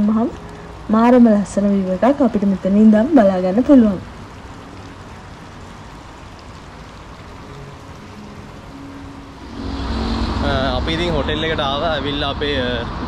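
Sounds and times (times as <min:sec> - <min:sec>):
faint low tones: 0:00.0 - 0:12.4
steady background hiss: 0:00.0 - 0:13.0.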